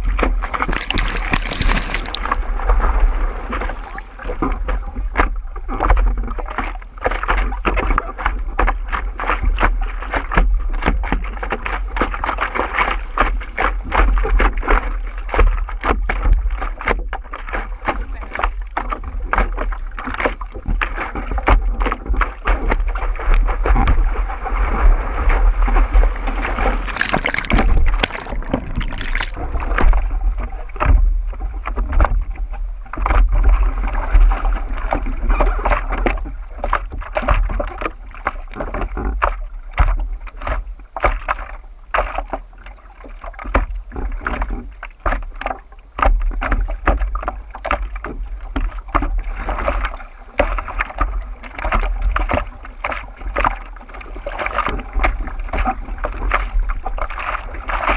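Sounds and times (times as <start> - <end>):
water splashing against surfboard: 0.0 - 57.9.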